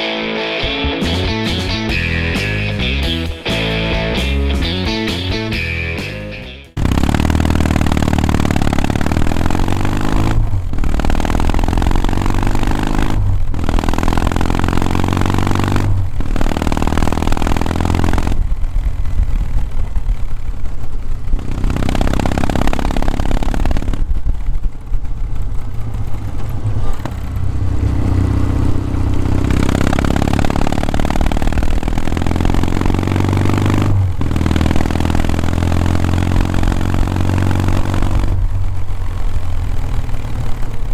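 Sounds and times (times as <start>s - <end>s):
motorcycle engine shifting gears: 0.8s - 40.9s.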